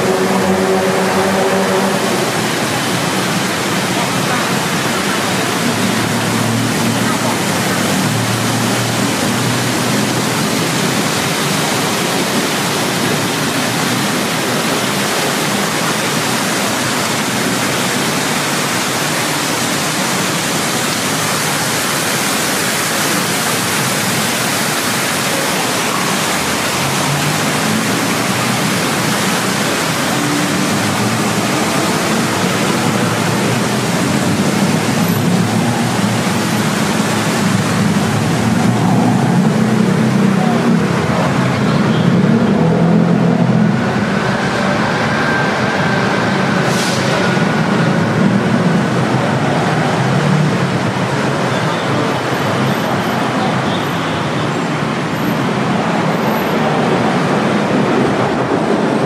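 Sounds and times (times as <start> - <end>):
water rushing down wall fountain: 0.0 - 59.0.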